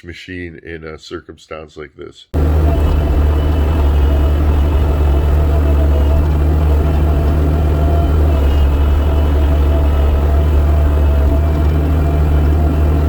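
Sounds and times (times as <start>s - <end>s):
diesel engine running: 2.4s - 13.0s.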